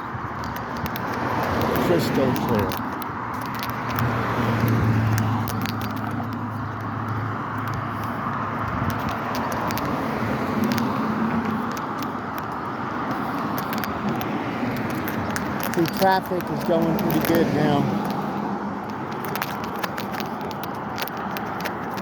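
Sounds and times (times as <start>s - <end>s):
cars passing on street: 0.0s - 22.0s
low engine hum: 1.1s - 20.1s.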